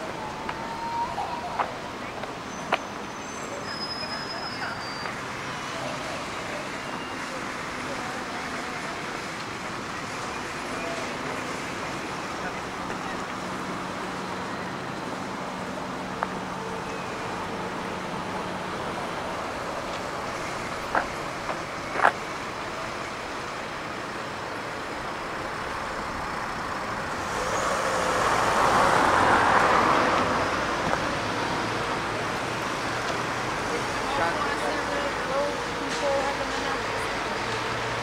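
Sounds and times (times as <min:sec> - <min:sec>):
road traffic noise: 0:00.0 - 0:38.0.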